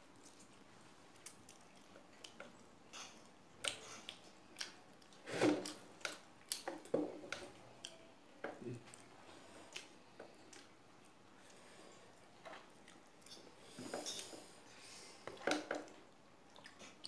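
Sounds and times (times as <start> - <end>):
person chewing food: 0.1 - 8.1, 8.7 - 17.0.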